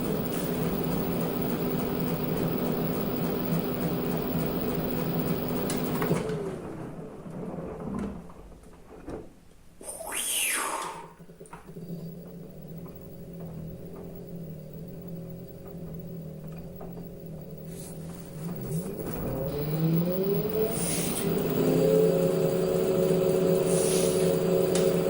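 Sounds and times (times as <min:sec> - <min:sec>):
washing machine motor hum: 0:00.0 - 0:07.8, 0:11.2 - 0:25.0.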